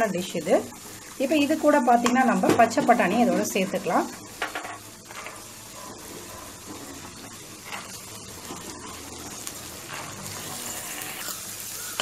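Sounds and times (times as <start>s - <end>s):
vegetables sizzling in hot fat: 0.0s - 12.0s.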